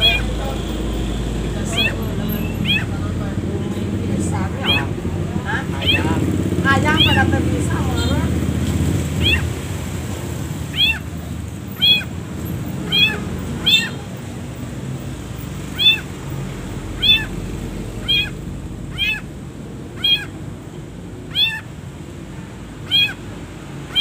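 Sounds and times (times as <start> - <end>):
low background rumble: 0.0 - 23.3
bird mewing calls: 0.0 - 24.0.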